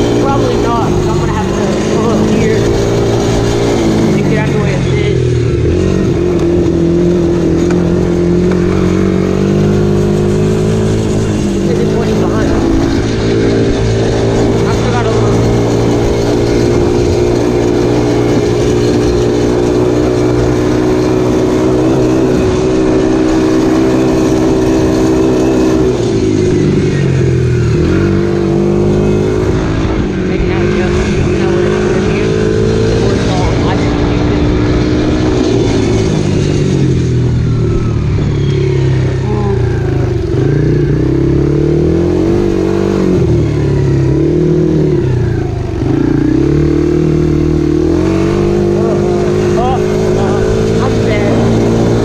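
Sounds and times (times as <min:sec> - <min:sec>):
dirt bike engine running: 0:00.0 - 0:52.0.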